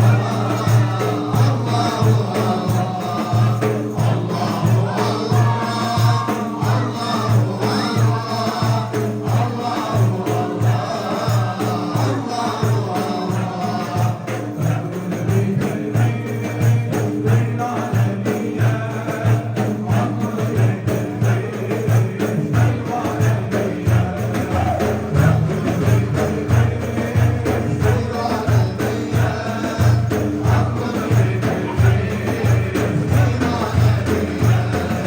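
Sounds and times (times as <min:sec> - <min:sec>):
steady frame drum beat: 0:00.0 - 0:35.0
voices singing a hymn: 0:00.0 - 0:35.0.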